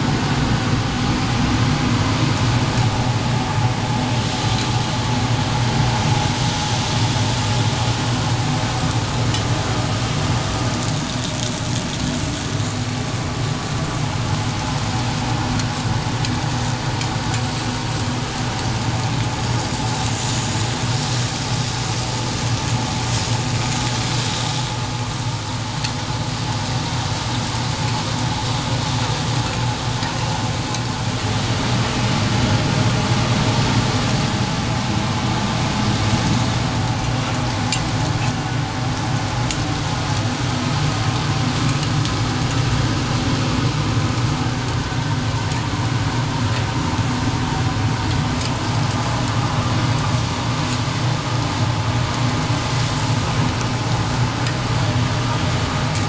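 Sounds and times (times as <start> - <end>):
burger patties sizzling: 0.0 - 56.0
low machine hum: 0.0 - 56.0.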